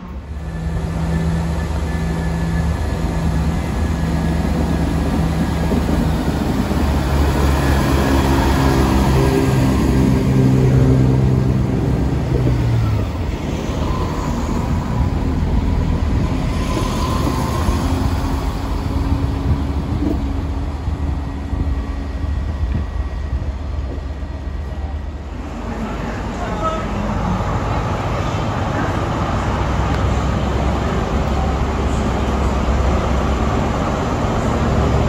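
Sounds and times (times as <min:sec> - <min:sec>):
diesel train engine: 0:00.0 - 0:35.0
rumble of wheels on track: 0:00.0 - 0:35.0.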